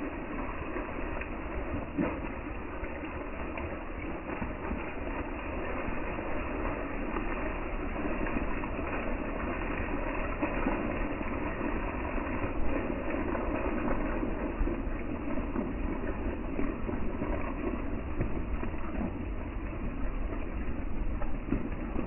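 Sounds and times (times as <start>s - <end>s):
rain falling on leaves: 0.0s - 22.0s.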